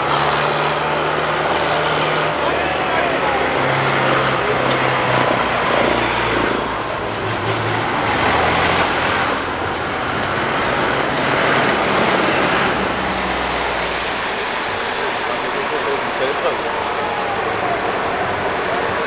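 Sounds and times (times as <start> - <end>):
outdoor vehicle noise: 0.0 - 19.0
vehicle engines running: 0.0 - 19.0.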